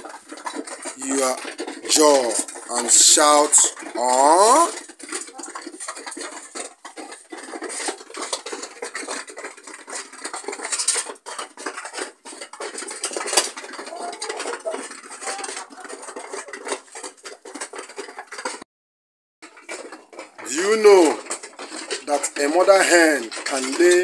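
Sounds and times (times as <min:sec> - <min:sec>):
small hard objects clattering: 0:00.0 - 0:18.6, 0:19.4 - 0:24.0.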